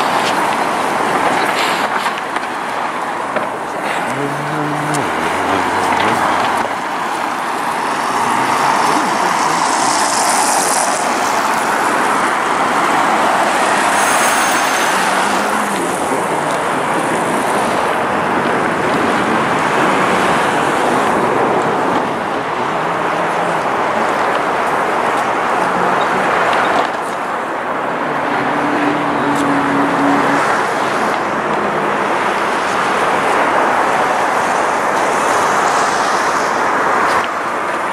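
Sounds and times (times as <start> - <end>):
cars passing on street: 0.0 - 37.9.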